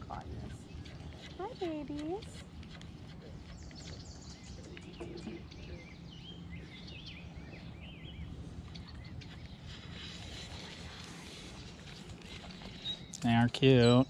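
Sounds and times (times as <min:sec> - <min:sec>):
low outdoor rumble: 0:00.0 - 0:13.8
bird chirping: 0:00.0 - 0:14.0.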